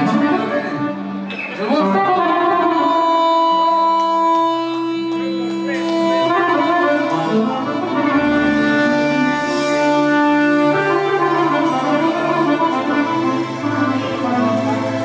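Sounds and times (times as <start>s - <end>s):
accordion melody: 0.0s - 15.0s
bass line: 0.0s - 15.0s.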